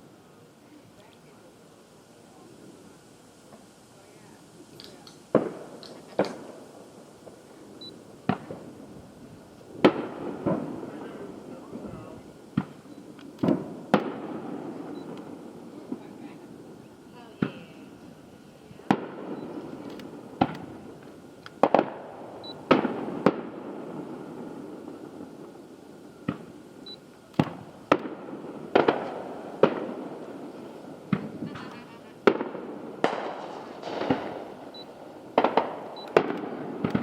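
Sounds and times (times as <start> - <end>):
crackling firework shells: 0.0 - 37.0
fireworks bangs: 0.7 - 37.0.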